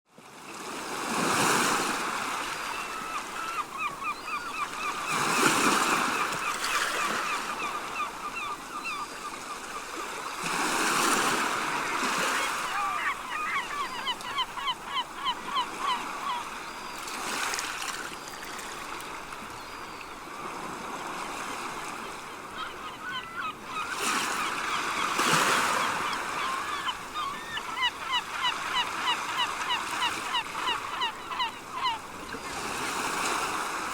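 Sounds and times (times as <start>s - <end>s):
seagulls calling: 1.4s - 18.8s, 19.5s - 33.9s.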